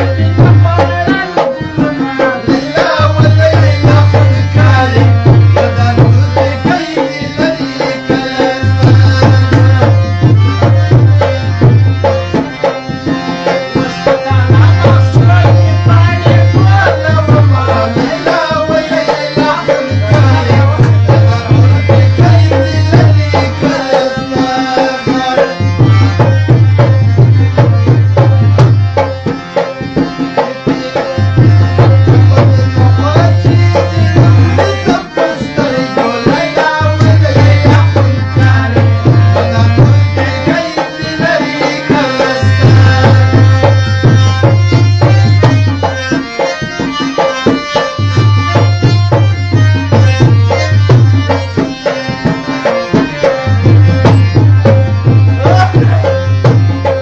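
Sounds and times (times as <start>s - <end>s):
fast hand drum pattern: 0.0s - 57.0s
music: 0.0s - 57.0s.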